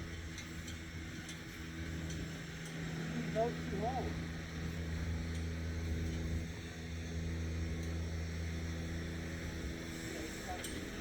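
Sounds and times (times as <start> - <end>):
engine humming low: 0.0 - 11.0.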